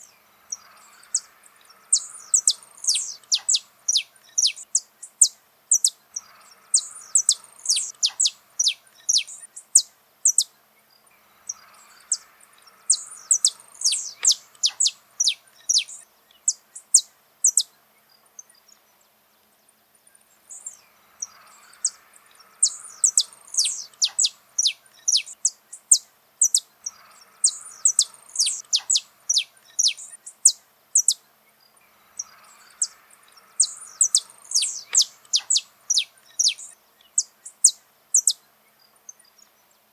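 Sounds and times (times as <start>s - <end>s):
finch singing: 0.0s - 19.0s, 20.3s - 39.9s.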